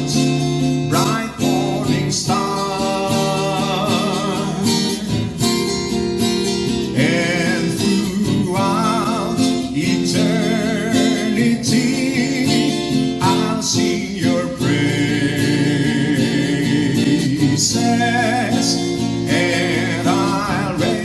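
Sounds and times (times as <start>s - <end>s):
person singing with vibrato: 0.0s - 6.0s, 6.6s - 21.0s
strummed acoustic guitar: 0.0s - 21.0s.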